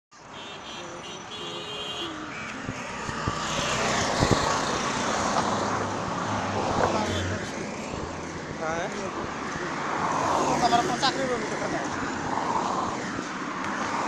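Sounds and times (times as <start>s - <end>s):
cars passing close: 0.2s - 14.0s.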